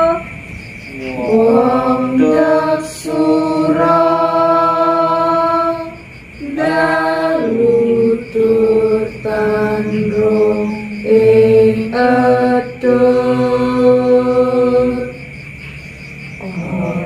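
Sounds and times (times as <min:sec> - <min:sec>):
voices singing in unison: 0:00.0 - 0:15.4.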